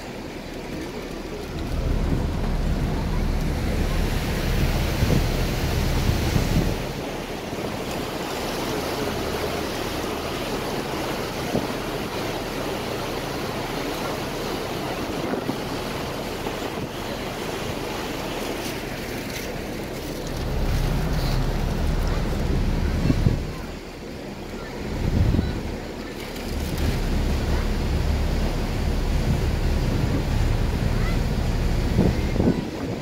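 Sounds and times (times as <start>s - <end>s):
water washing: 0.0s - 33.0s
wind buffeting microphone: 0.0s - 33.0s.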